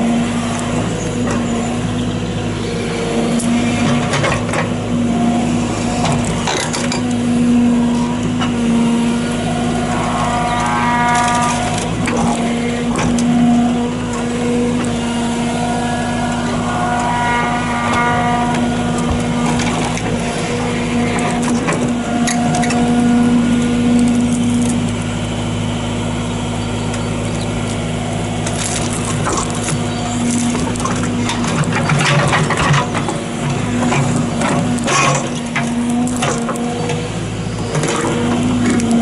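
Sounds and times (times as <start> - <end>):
excavator engine under load: 0.0 - 39.0
hydraulics whining: 0.0 - 39.0.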